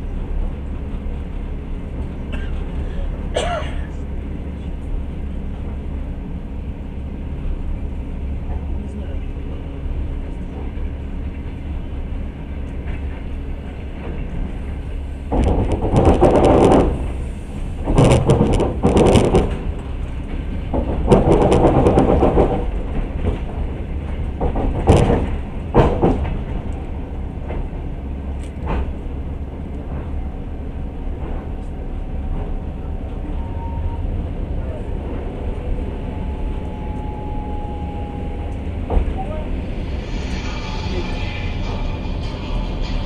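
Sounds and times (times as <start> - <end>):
train carriage rumbling on rails: 0.0 - 43.0
wheel and rail clatter: 8.3 - 43.0.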